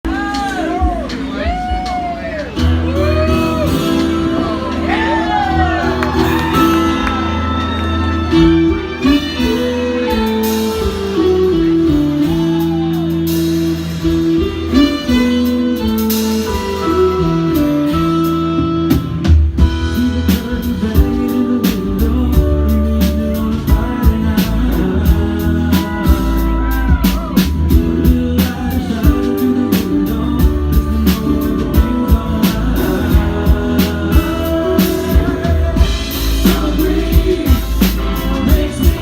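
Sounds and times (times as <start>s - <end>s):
drums on a steady beat: 0.0s - 7.1s, 8.3s - 39.0s
live band playing: 0.0s - 39.0s.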